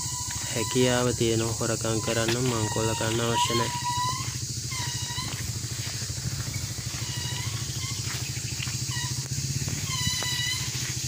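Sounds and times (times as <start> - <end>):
short high-pitched calls: 0.0 - 11.0
small engine running: 0.0 - 11.0.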